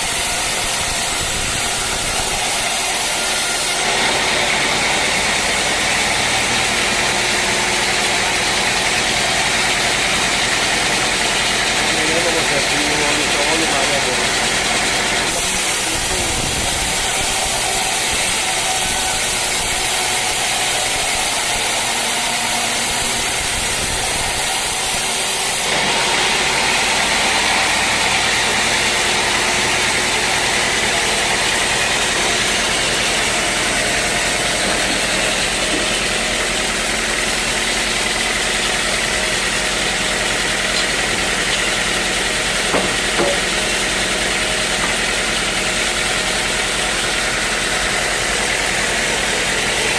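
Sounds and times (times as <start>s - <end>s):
sawmill machinery humming: 0.0s - 49.9s.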